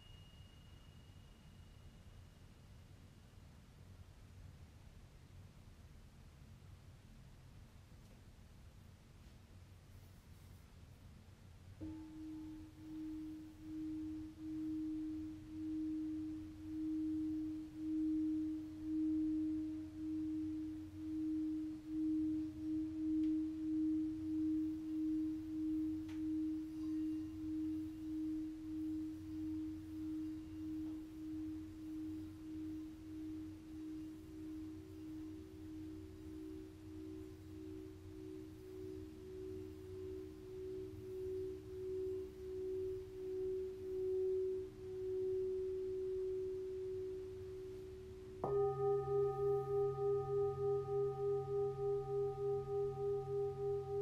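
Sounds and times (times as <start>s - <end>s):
singing bowls ringing: 0.0s - 2.6s, 11.8s - 54.0s
high singing bowl ringing: 0.0s - 2.8s, 11.8s - 54.0s.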